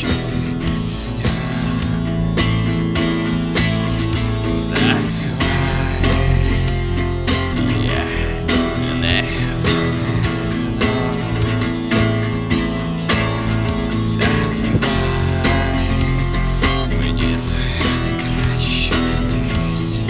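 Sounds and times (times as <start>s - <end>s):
band music with strummed guitars: 0.0s - 20.0s.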